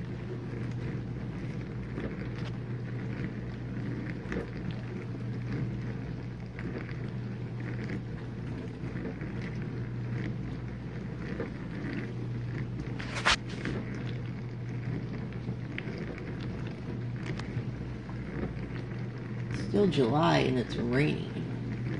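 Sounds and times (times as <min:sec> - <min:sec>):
dishwasher motor hum: 0:00.0 - 0:21.9.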